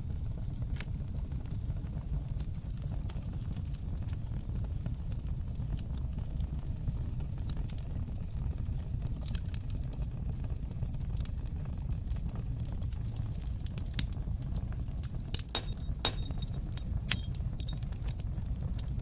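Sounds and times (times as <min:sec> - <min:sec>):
fire pops and snaps: 0:00.0 - 0:19.0
low rumble of flames: 0:00.0 - 0:19.0.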